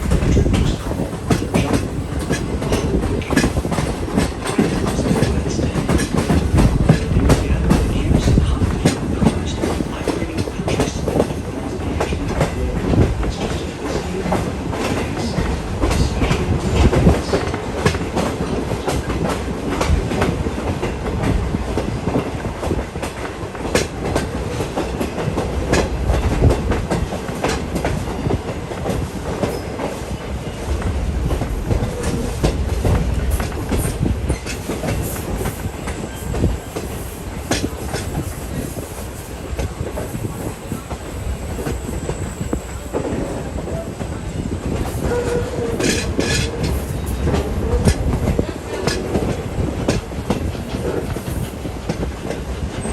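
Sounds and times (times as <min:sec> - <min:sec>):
train car rumbling: 0:00.0 - 0:52.9
wheels clacking over rail joints: 0:00.0 - 0:52.9.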